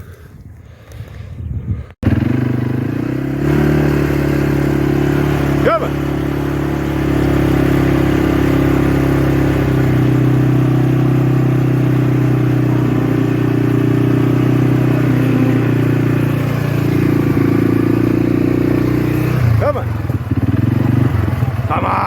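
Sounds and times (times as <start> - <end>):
vehicle engine running: 2.0 - 22.0.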